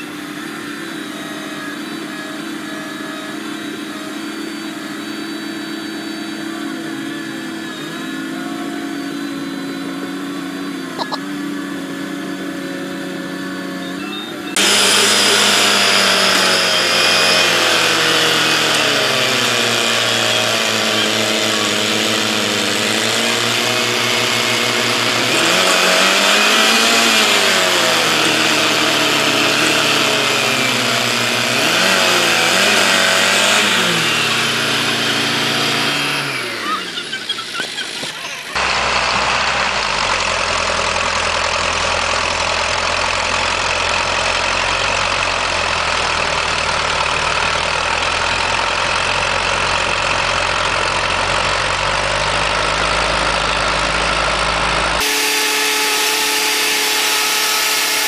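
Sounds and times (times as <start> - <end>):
heavy engine revving under load: 0.0 - 58.0.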